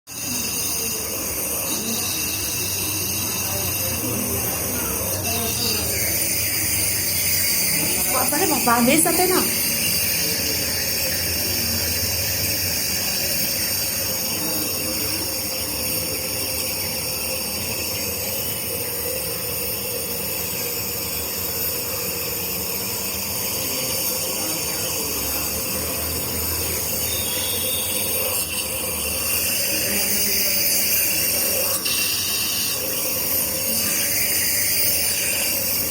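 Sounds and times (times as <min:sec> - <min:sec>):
nebulizer motor humming with hiss: 0:00.1 - 0:35.9.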